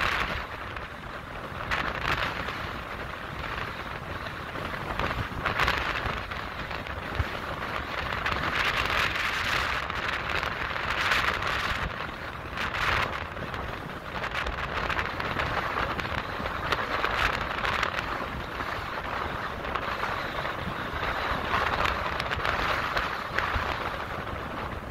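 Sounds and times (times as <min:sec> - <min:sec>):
strong wind buffeting microphone: 0:00.0 - 0:24.9.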